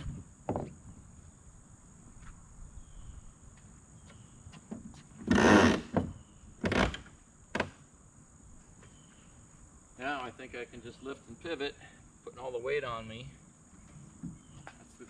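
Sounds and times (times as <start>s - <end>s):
high insect buzz: 0.0s - 15.0s.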